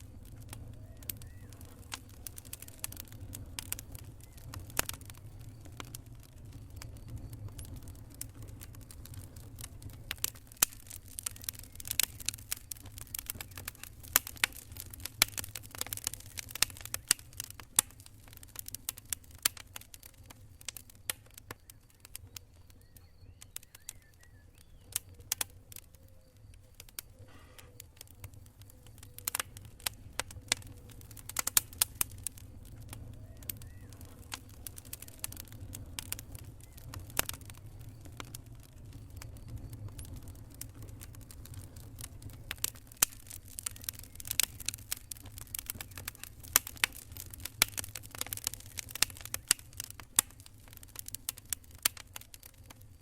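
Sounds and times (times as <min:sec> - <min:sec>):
campfire crackling: 0:00.0 - 0:53.0
low fire rumble: 0:00.0 - 0:53.0.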